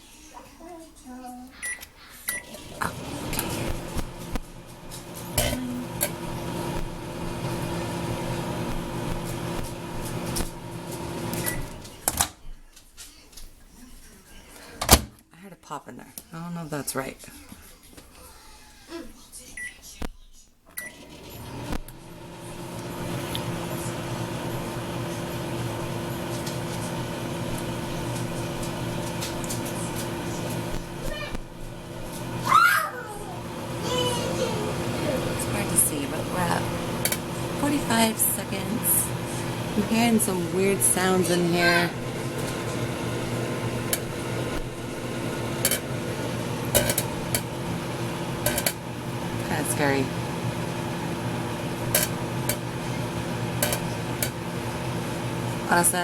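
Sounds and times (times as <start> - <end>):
microwave oven humming: 0.6 - 12.3, 20.7 - 56.0.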